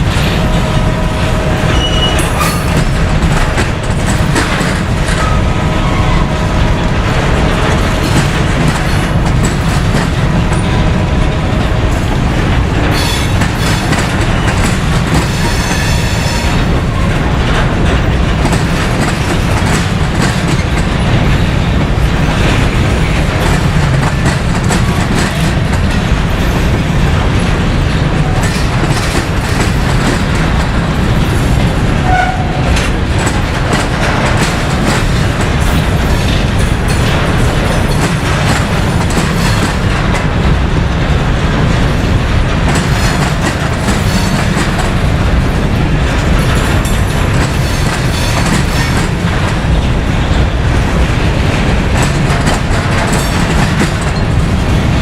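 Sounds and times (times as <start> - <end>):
freight train cars rolling past: 0.0 - 55.0
wheels clicking over rail joints: 0.0 - 55.0.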